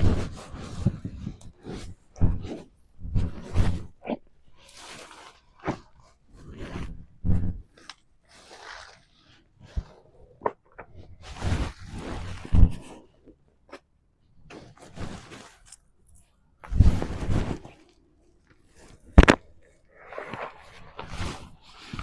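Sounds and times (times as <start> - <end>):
crunching and scraping handling: 0.0 - 22.0.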